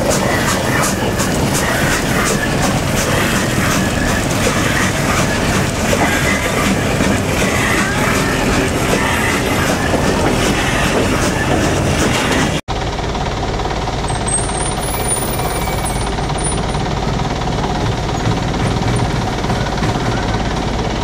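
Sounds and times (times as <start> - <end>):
pickup truck engine: 0.0 - 21.0
steam locomotive passing: 0.0 - 21.0
wheels clattering on track: 0.0 - 21.0.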